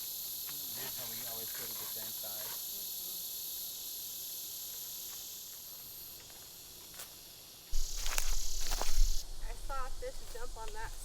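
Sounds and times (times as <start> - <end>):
insects trilling and buzzing: 0.0 - 11.0.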